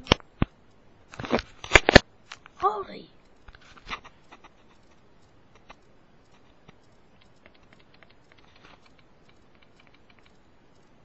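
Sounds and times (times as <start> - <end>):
small clicks and ticks: 0.0 - 11.0.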